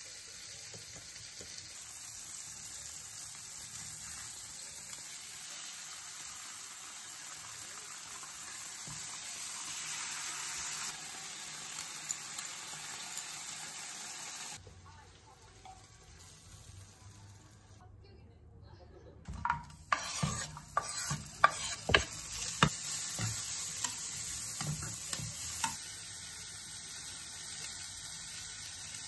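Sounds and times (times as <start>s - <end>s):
fish sizzling in oil: 0.0s - 14.6s, 19.9s - 29.0s.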